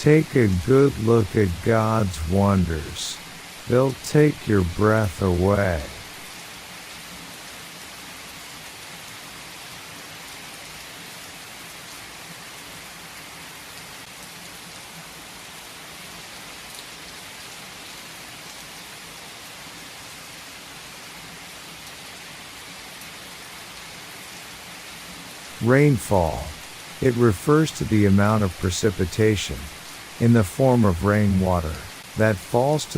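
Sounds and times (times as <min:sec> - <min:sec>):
steady rain: 0:00.0 - 0:32.9.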